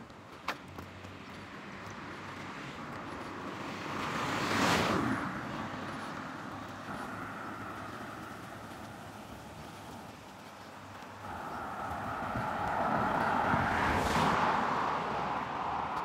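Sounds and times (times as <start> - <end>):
car passing by: 0.8 - 16.0.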